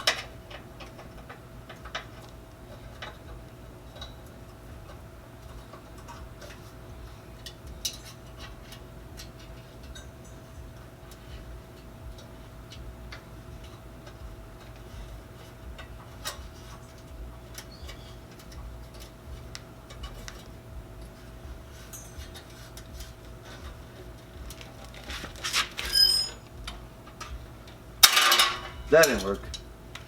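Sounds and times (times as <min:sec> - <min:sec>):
metallic clatter with ringing: 0:00.0 - 0:29.7.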